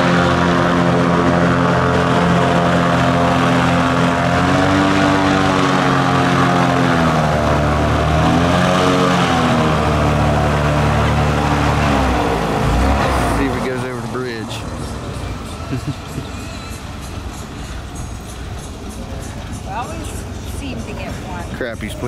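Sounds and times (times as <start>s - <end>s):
airboat engine and propeller: 0.0s - 22.0s.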